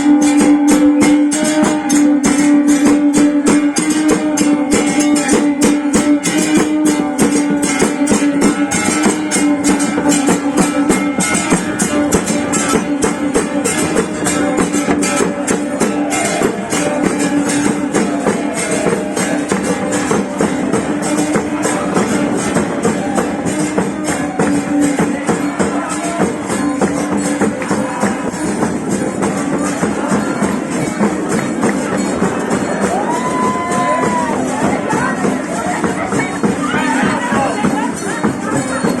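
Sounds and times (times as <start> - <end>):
fast percussion beat: 0.0 - 39.0
plucked string instruments: 0.0 - 39.0.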